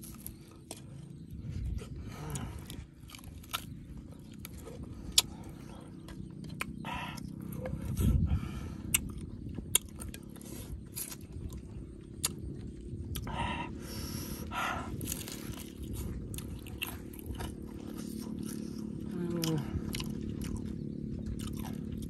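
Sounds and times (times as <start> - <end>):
chewing and lip-smacking: 0.0 - 22.0.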